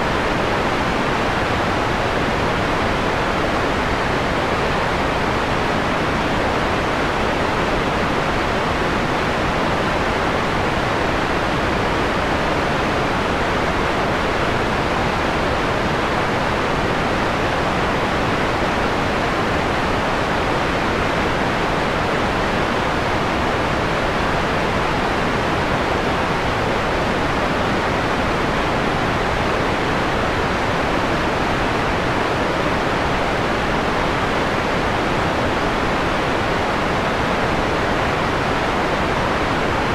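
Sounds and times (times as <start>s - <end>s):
filtered white noise hiss: 0.0s - 39.9s.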